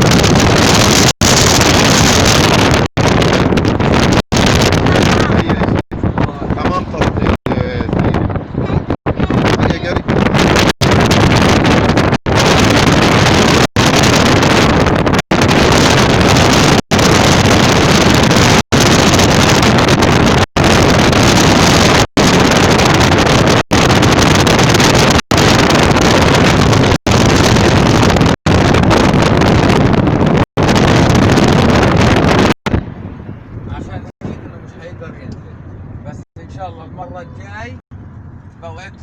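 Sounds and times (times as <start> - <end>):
wind on microphone: 0.0 - 38.4.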